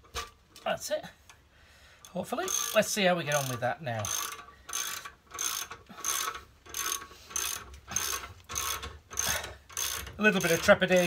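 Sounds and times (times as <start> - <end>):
ratchet wrench clicking: 2.0 - 11.0.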